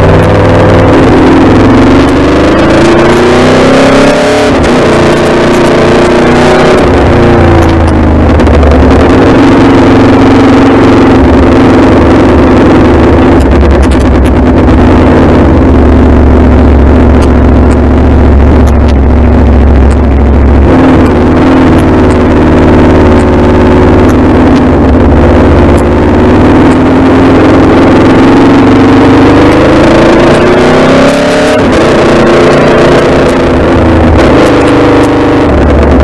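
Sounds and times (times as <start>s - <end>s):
motorcycle engine cruising: 0.0s - 36.0s.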